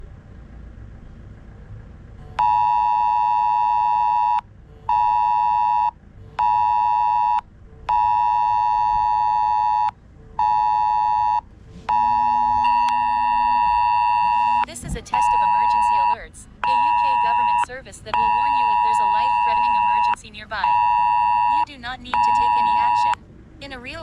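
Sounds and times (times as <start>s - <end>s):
phone emergency alert tone: 2.4s - 23.2s.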